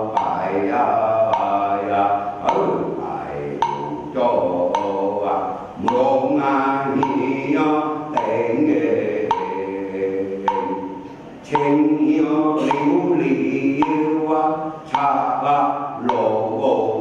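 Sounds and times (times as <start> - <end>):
wood block knocking: 0.0 - 14.2
voices chanting in unison: 0.0 - 17.0.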